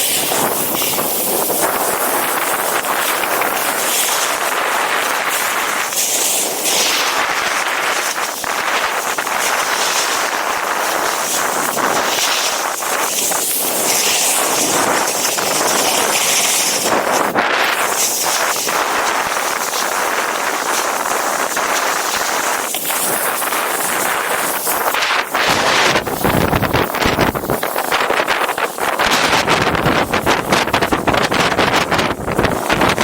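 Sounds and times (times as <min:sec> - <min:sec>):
snowboard scraping over snow: 0:00.0 - 0:33.0
wind on microphone: 0:00.0 - 0:33.0.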